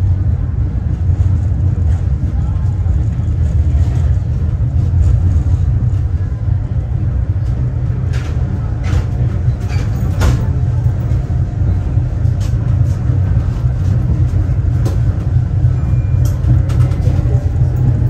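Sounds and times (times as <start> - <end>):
tram rumbling on track: 0.0 - 18.0.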